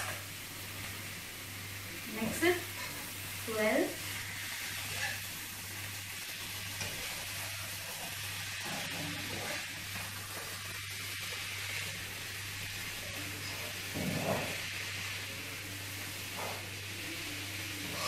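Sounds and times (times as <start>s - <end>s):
spatula stirring in pan: 0.0s - 18.0s
vegetables sizzling in oil: 0.0s - 18.0s.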